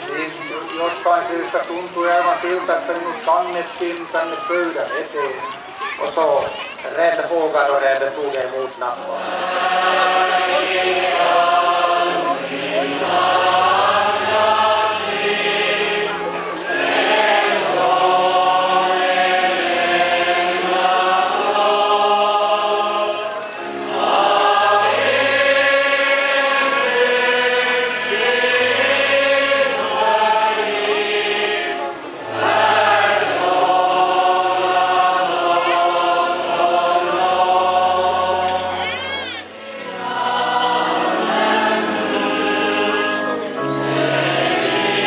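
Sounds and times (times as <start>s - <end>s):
congregation singing a hymn: 7.0s - 45.0s.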